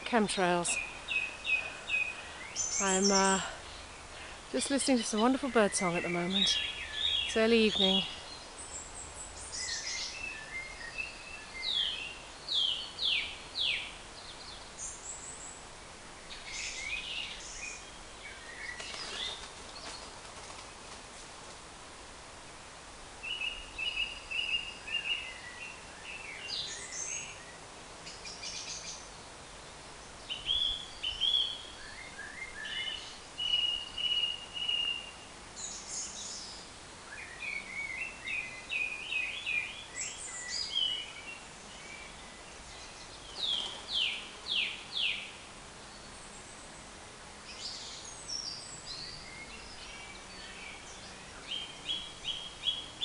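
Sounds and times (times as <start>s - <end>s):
songbirds singing: 0.0s - 21.8s, 22.6s - 53.0s.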